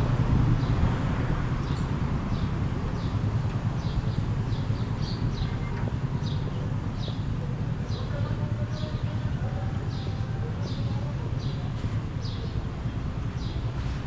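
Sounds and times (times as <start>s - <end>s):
low street ambience rumble: 0.0s - 14.0s
small birds chirping: 1.6s - 13.9s.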